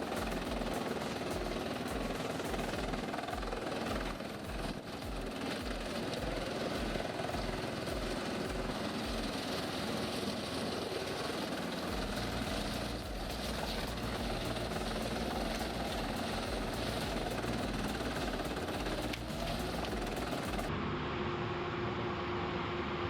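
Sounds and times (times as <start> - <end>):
heavy machinery engine running: 0.0 - 23.0.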